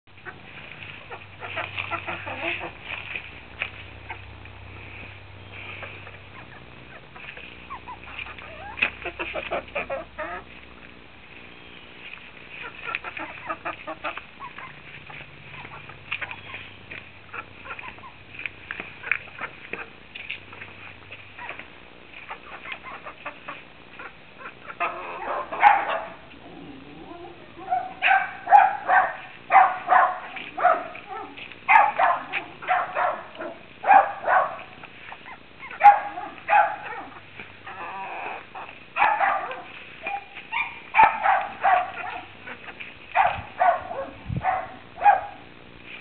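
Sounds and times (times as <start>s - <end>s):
chickens calling: 0.0s - 46.0s.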